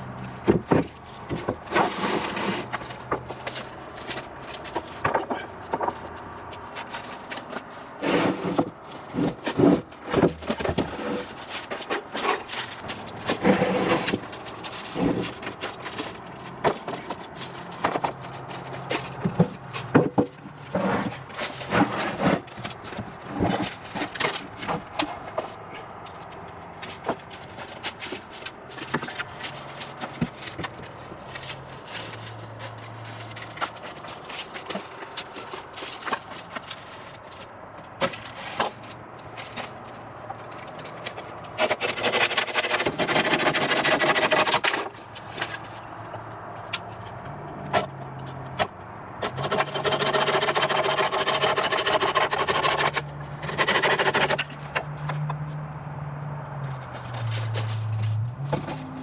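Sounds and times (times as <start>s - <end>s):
knocks and clatter: 0.0s - 55.8s, 56.6s - 59.0s.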